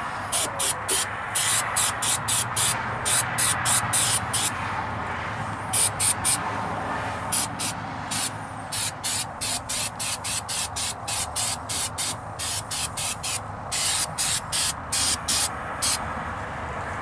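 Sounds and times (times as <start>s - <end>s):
spray gun hissing bursts: 0.0s - 4.5s, 5.8s - 6.4s, 7.3s - 16.0s.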